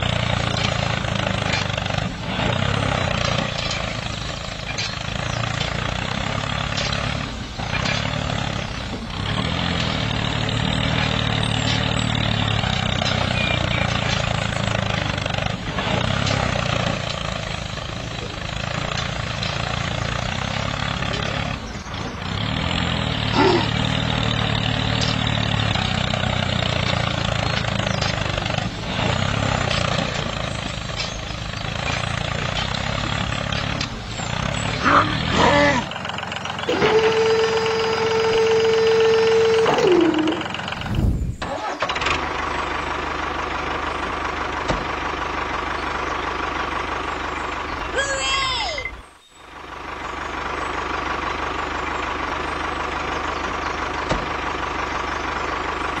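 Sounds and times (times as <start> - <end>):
small model tractor motor droning: 0.0 - 47.8.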